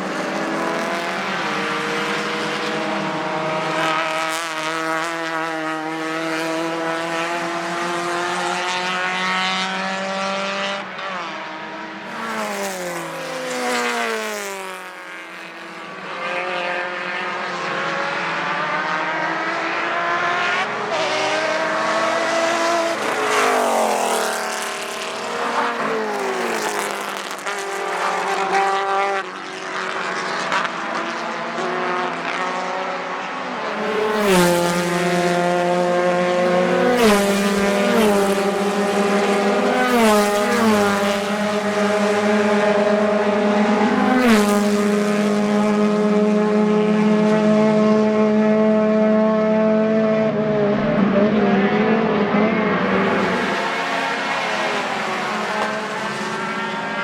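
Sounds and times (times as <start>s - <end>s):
racing car engines passing by: 0.0s - 57.0s.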